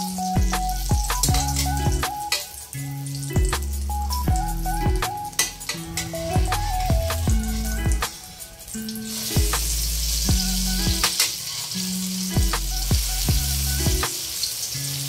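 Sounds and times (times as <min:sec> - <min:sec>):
background music with beat: 0:00.0 - 0:14.4
omelette sizzling in oil: 0:00.0 - 0:15.0.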